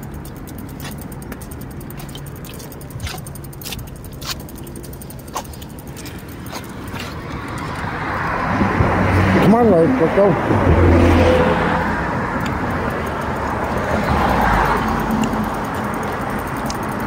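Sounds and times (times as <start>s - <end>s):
bicycle wheel ticking: 0.0s - 9.9s, 10.6s - 17.0s
bicycle rattles: 0.0s - 17.0s
tyres humming on pavement: 0.0s - 17.0s.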